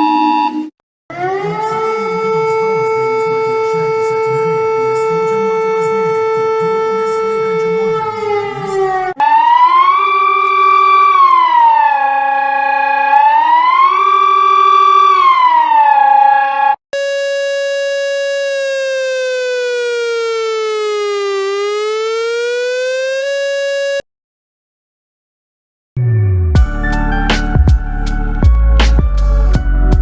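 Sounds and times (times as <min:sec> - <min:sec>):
alarm tone gliding high and low: 0:00.0 - 0:24.0
buzzy alarm tone sinking in pitch: 0:00.0 - 0:24.0.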